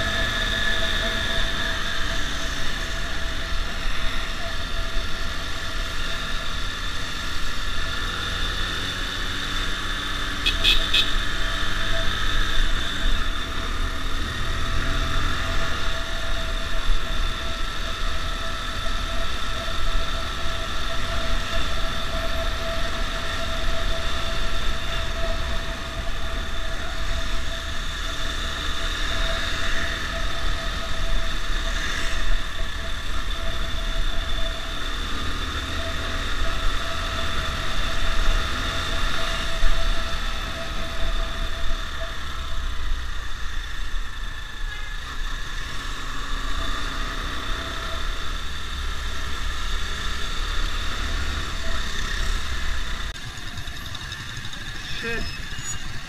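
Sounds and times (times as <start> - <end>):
motorcycle engine running: 0.0 - 56.0
steady high whine: 0.0 - 56.0.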